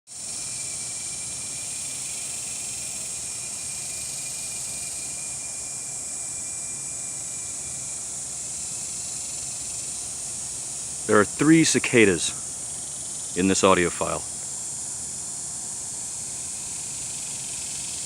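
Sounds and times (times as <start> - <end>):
cicadas buzzing: 0.1 - 18.0.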